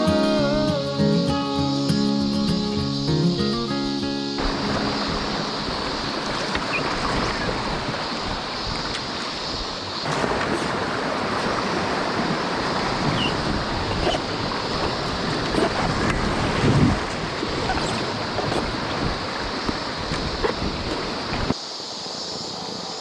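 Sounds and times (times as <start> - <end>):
rushing river water: 0.0 - 23.0
wind buffeting microphone: 2.5 - 21.6.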